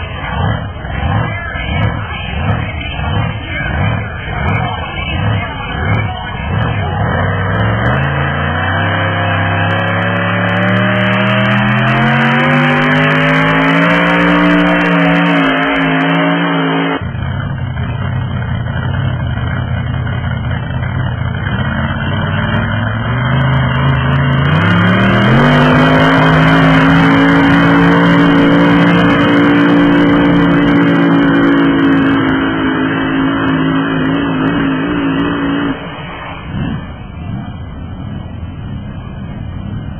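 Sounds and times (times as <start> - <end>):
tractor engine revving under load: 0.0 - 39.9.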